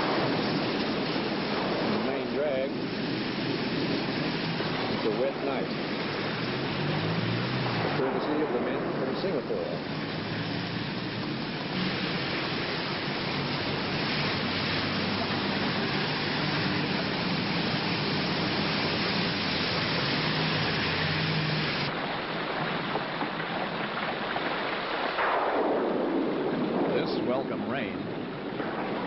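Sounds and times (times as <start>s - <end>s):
low vehicle engine hum: 0.0s - 24.8s
heavy rain pouring: 0.0s - 29.0s.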